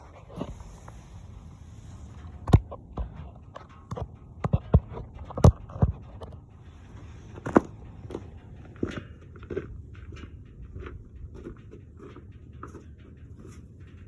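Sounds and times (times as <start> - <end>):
irregular thumps and knocks: 2.2 - 14.0.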